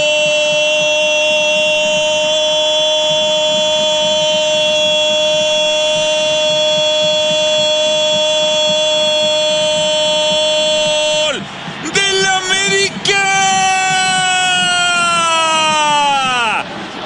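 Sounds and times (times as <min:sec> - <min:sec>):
commentator shouting goal cry: 0:00.0 - 0:16.7
faint crowd noise: 0:00.0 - 0:17.0.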